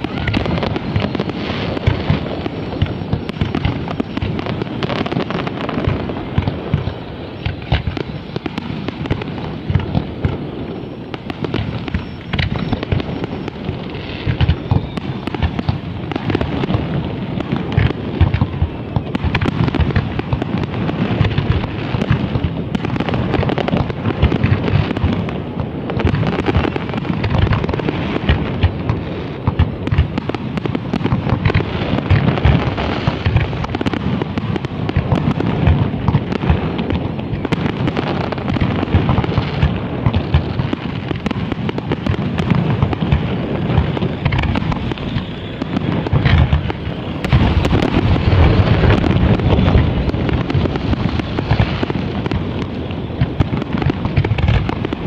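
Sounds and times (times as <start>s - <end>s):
fireworks bursts and booms: 0.0s - 55.0s.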